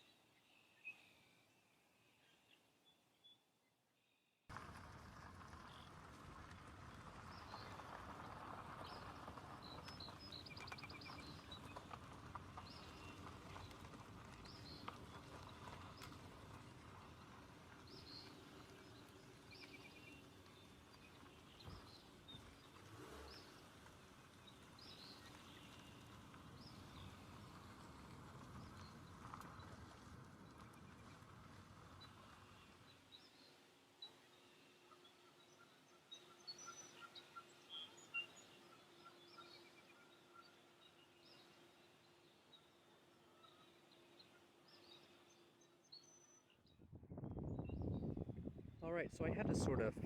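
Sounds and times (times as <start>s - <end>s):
birds chirping: 7.3s - 29.9s, 31.8s - 50.0s.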